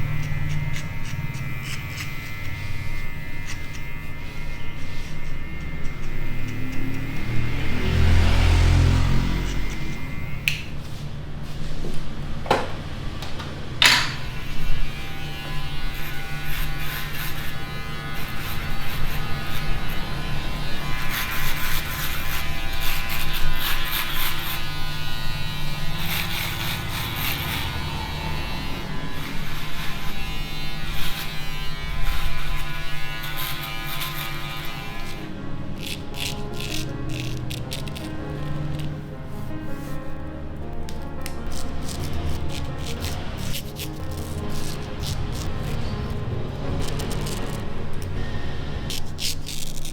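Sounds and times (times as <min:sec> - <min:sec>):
electric hair clippers buzzing: 0:00.0 - 0:11.2, 0:11.8 - 0:39.0, 0:40.8 - 0:49.9.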